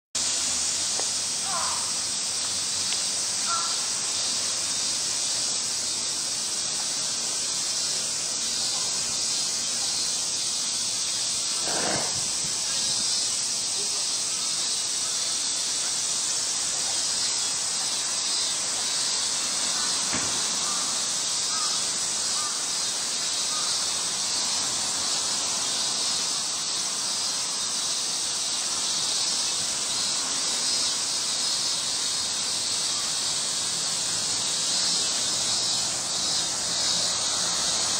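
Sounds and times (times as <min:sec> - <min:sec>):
high-pitched outdoor hiss: 0:00.1 - 0:37.9.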